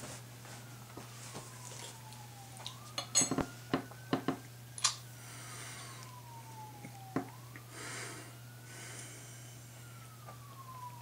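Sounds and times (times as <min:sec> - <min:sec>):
siren wailing faintly: 0:00.0 - 0:11.0.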